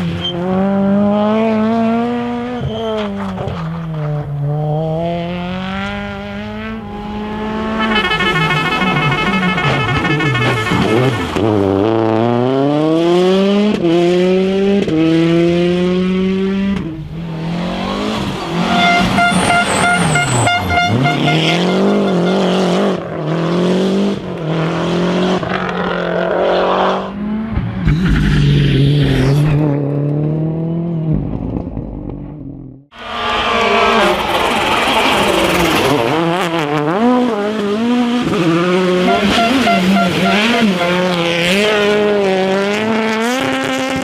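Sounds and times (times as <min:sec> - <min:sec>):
rally cars at full throttle: 0:00.0 - 0:44.0.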